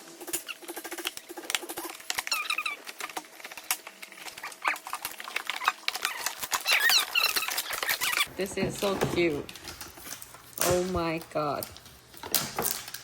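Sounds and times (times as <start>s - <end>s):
plastic packaging crinkling: 1.6s - 13.0s.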